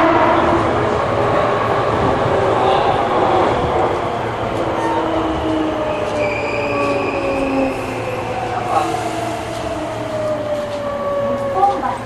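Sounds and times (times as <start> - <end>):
train rumbling in tunnel: 0.0 - 12.0.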